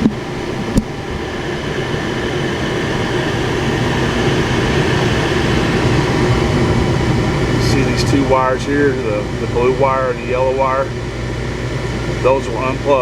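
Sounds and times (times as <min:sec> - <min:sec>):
heater blower and burners rushing: 0:00.0 - 0:13.0.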